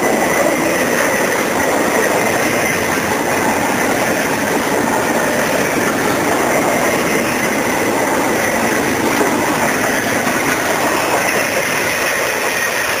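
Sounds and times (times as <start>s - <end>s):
steel wheels on rail: 0.0s - 13.0s.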